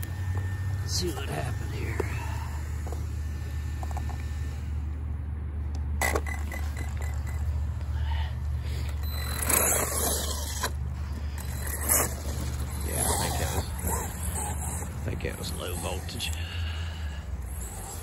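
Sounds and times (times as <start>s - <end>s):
toy truck tyres scrabbling: 0.0s - 4.9s, 5.6s - 18.0s.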